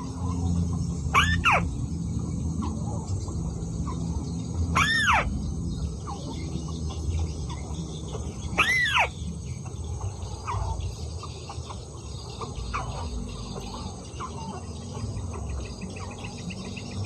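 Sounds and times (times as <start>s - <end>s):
bird calls: 0.0s - 17.0s
steady low rumble: 0.0s - 17.0s.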